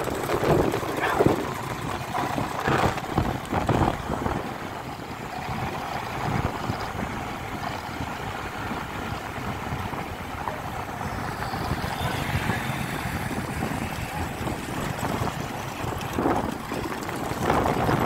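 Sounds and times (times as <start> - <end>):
moving vehicle running noise: 0.0 - 18.0
wind buffeting microphone: 0.0 - 18.0.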